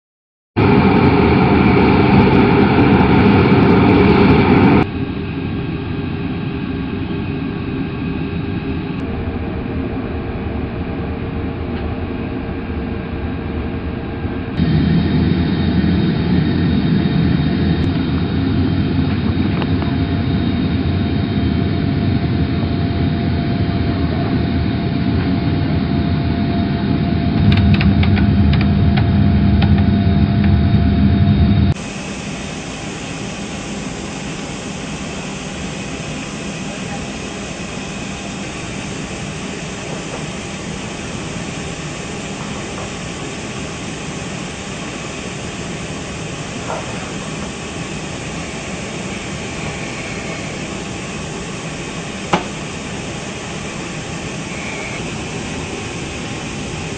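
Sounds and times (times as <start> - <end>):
jet engines running with whine: 0.6 - 56.9.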